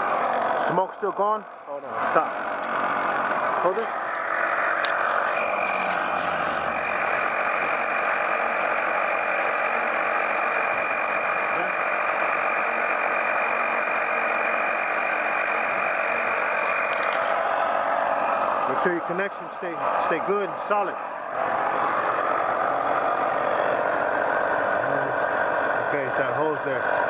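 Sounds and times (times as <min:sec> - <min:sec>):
compressed air hissing: 0:02.2 - 0:26.0.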